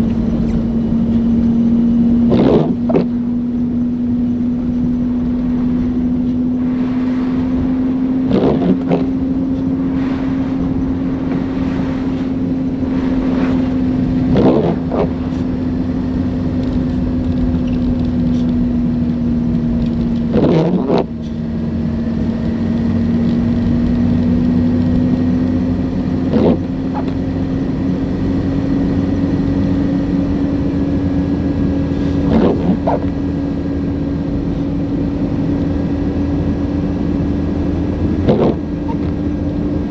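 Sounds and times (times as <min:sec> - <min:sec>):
car driving drone: 0:00.0 - 0:39.9.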